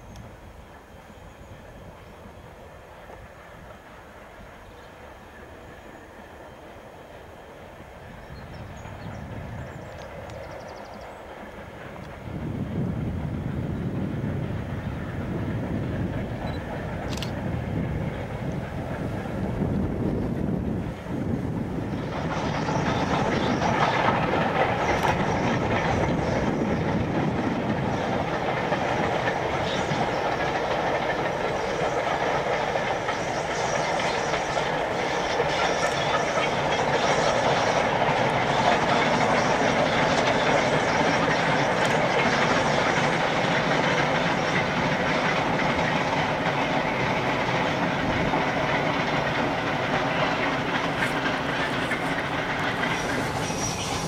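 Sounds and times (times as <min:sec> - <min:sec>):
steam locomotive working: 0:00.0 - 0:54.0
train wheels on rails: 0:00.0 - 0:54.0.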